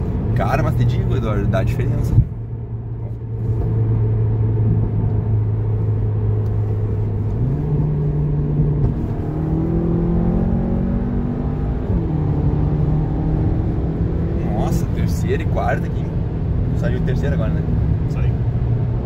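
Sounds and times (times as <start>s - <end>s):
car engine accelerating: 0.0s - 19.0s
road rumble: 0.0s - 19.0s.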